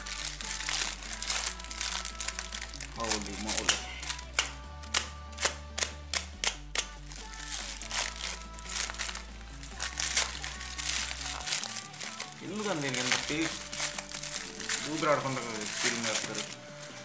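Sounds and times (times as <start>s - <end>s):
background music: 0.0s - 17.0s
parcel wrapping crinkling and tearing: 0.0s - 17.0s.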